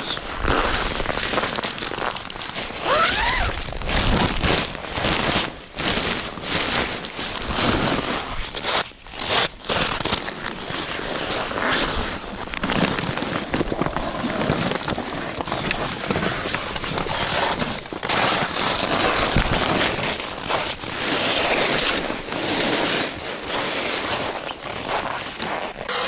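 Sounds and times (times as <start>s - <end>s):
stiff tent fabric rustling: 0.0s - 26.0s.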